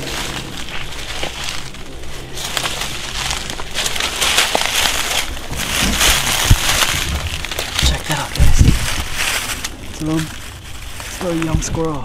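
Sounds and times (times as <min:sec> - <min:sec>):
footsteps crunching through dry leaves: 0:00.0 - 0:12.0.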